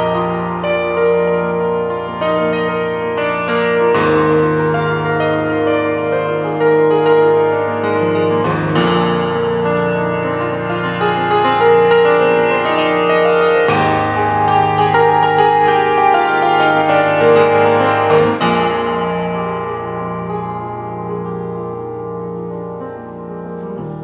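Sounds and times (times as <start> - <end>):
piano-like keyboard chords: 0.0 - 24.0.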